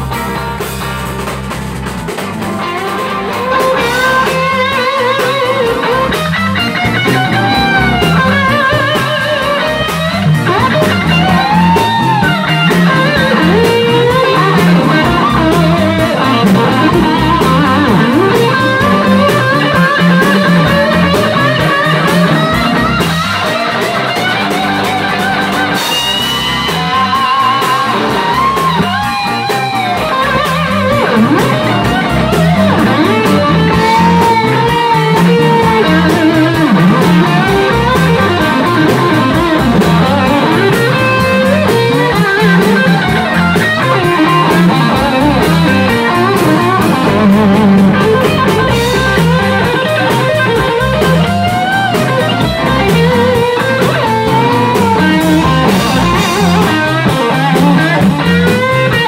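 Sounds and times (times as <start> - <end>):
electric guitar lead with bent notes: 0.0 - 59.0
rock band playing: 0.0 - 59.0.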